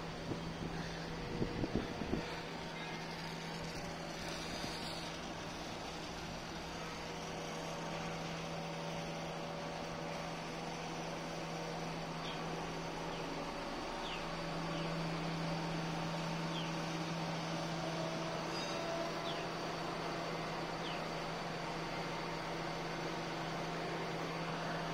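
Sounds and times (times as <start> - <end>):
drilling rig machinery humming: 0.0 - 24.9.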